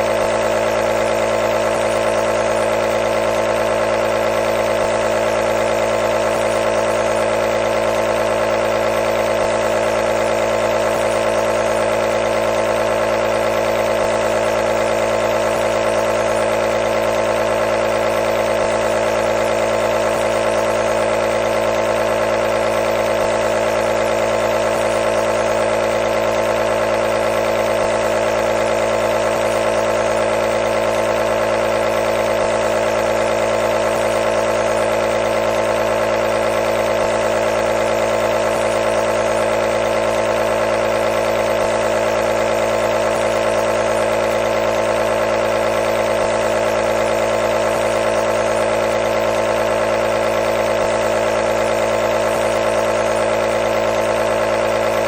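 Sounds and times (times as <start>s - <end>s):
nebulizer compressor hum: 0.0s - 55.0s.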